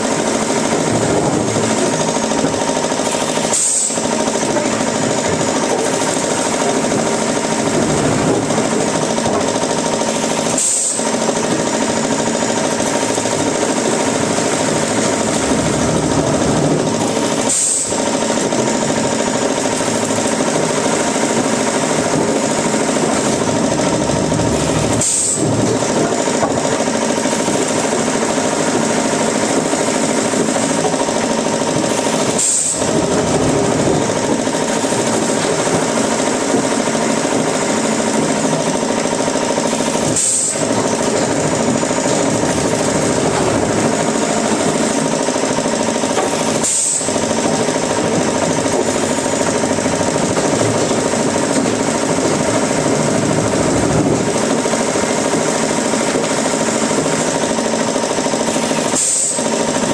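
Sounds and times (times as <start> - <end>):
woodworking machinery running: 0.0 - 59.9.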